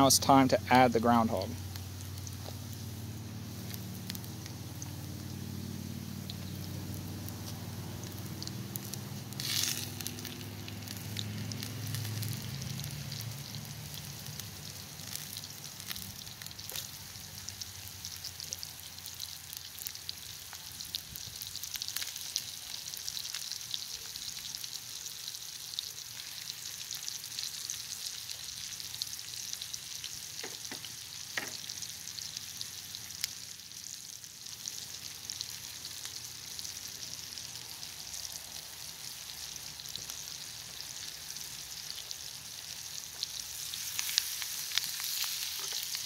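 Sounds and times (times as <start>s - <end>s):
food sizzling in hot fat: 0.0s - 46.0s.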